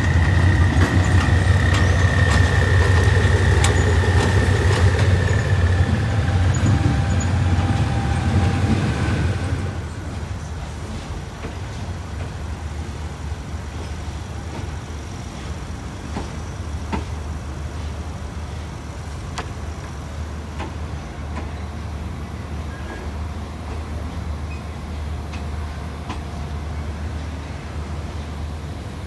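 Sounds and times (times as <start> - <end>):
train interior rumble: 0.0 - 29.0.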